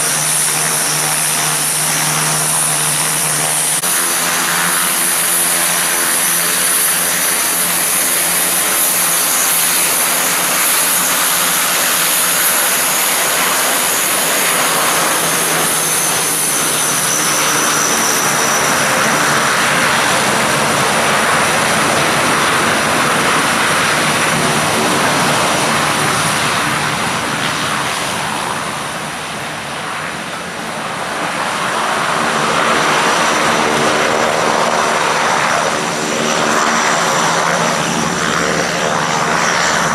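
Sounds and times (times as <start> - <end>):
high turbine whine: 0.0 - 39.9
propeller drone: 0.0 - 39.9
turboprop aircraft taxiing: 0.0 - 39.9.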